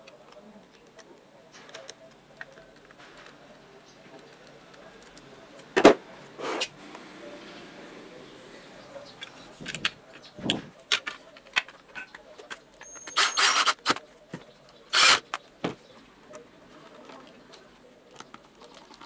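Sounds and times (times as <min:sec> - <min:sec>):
plastic parts clicking and knocking: 0:00.0 - 0:06.0, 0:09.2 - 0:19.0.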